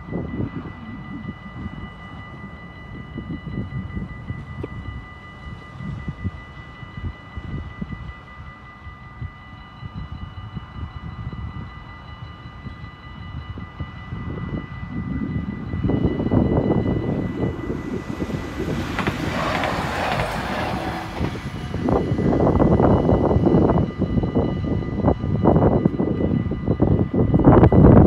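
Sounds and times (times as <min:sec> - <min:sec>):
crossing warning signal tone: 0:00.0 - 0:28.0
train rumble and wheel noise: 0:00.0 - 0:28.0.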